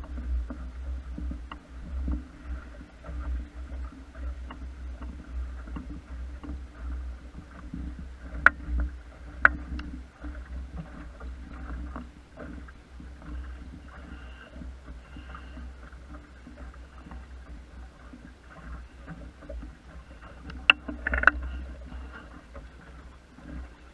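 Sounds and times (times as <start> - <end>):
steady low rumble: 0.0 - 23.9
water splashing against boat hull: 0.0 - 23.9.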